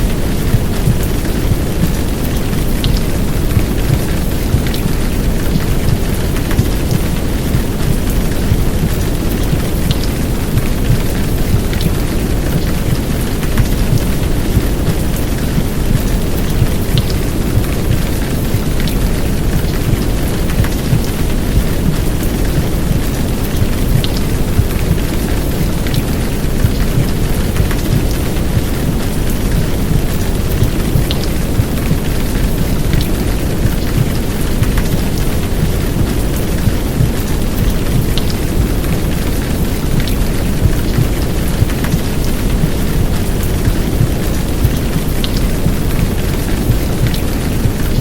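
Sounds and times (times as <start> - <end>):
heavy rain downpour: 0.0 - 48.0
muffled heartbeat: 0.0 - 48.0
white noise: 0.0 - 48.0.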